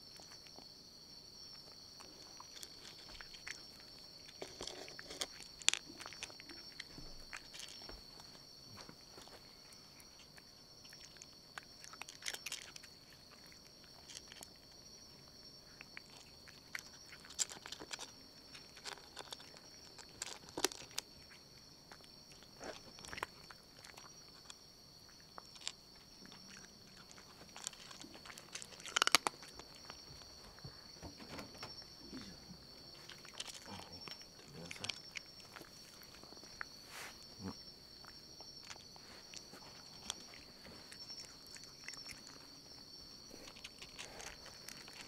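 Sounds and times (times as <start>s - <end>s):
cats crunching: 0.0s - 45.0s
faint high-pitched whine: 0.0s - 45.0s.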